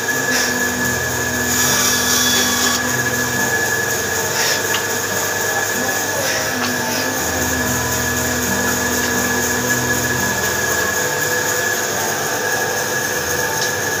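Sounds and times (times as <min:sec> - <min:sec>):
woodworking machine whining: 0:00.0 - 0:14.0.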